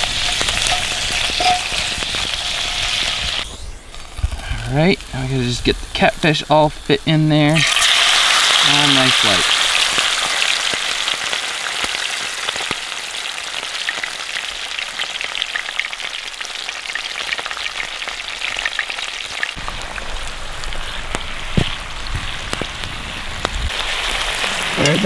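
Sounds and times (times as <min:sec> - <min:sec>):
fish sizzling in hot grease: 0:00.0 - 0:25.0.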